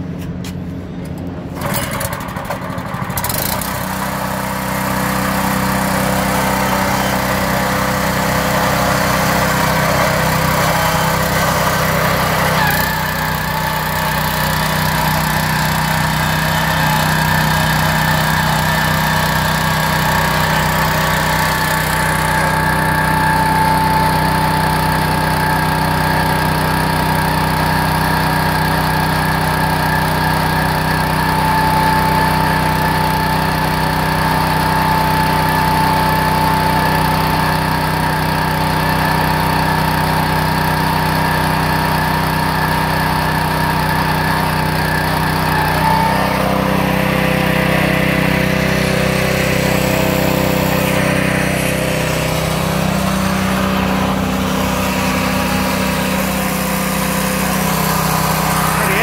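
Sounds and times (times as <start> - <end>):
small petrol engine running: 1.1 - 59.0.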